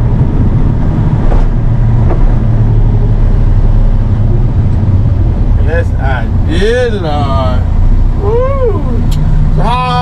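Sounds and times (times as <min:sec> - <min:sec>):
road noise: 0:00.0 - 0:10.0
vehicle engine drone: 0:00.0 - 0:10.0.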